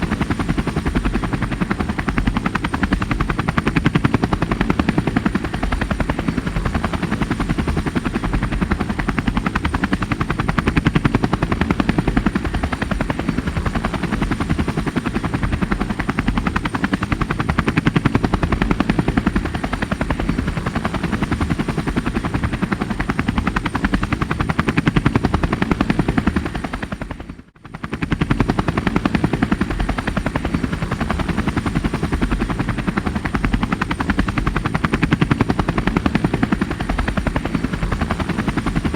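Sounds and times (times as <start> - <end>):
helicopter rotor chopping: 0.0 - 38.9.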